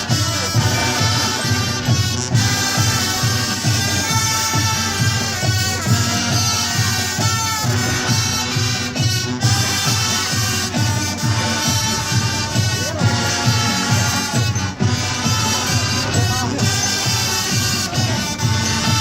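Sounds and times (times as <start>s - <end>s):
brass instruments holding chords: 0.0s - 19.0s
steady drum beat: 0.0s - 19.0s.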